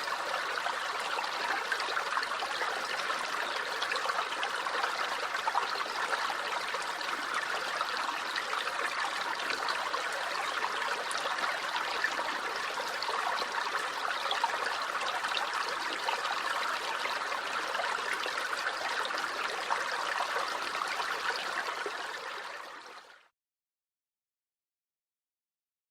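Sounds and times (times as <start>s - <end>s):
creek babbling over stones: 0.0s - 23.3s.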